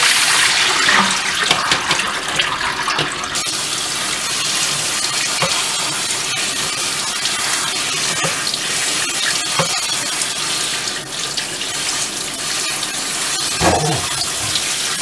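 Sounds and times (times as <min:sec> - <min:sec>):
kitchen tap running: 0:00.4 - 0:15.0.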